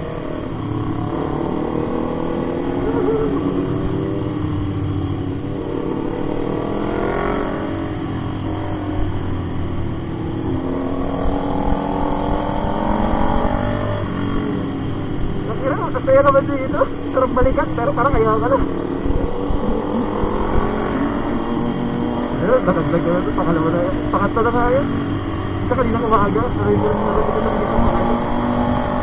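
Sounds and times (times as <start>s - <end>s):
motorcycle engine running: 0.0s - 28.8s.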